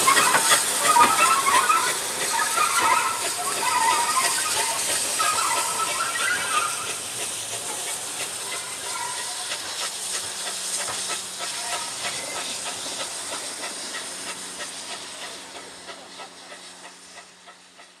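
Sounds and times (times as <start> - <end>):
steam locomotive hissing and chuffing: 0.0 - 18.0.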